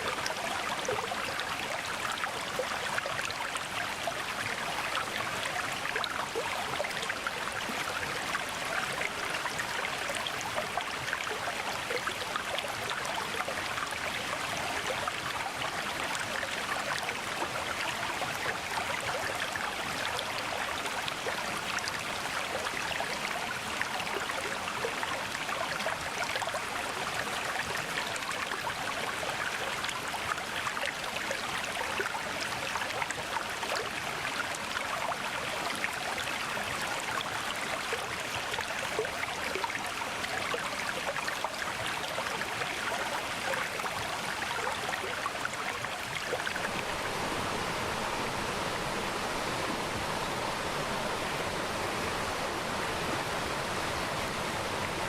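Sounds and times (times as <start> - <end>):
stream splashing over rocks: 0.0 - 55.0.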